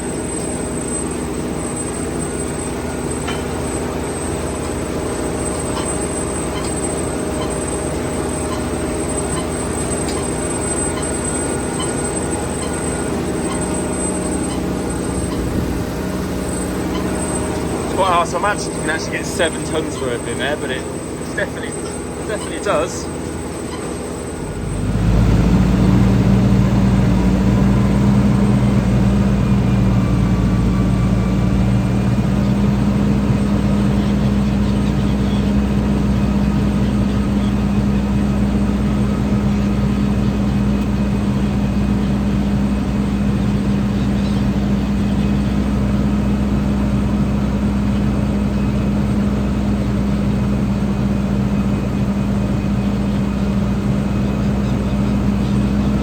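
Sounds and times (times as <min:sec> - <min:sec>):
potato harvester engine drone: 0:00.0 - 0:56.0.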